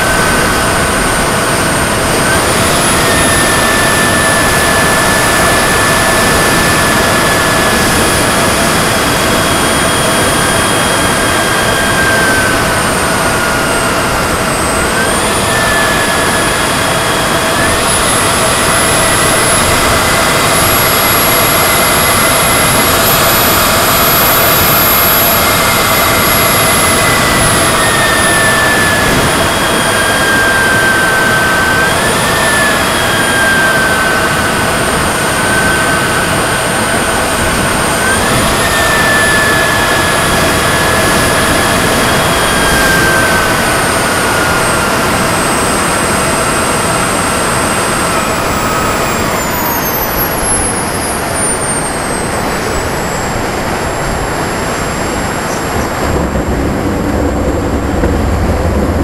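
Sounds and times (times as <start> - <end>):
loud rushing noise: 0.0 - 46.1, 46.8 - 59.0
model jet turbine whine: 0.0 - 59.0.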